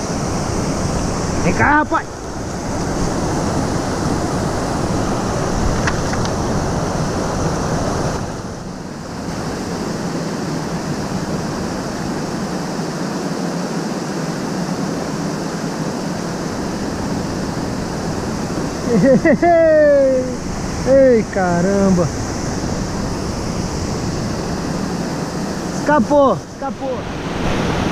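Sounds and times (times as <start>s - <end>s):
waterfall and rapids rushing: 0.0s - 27.9s.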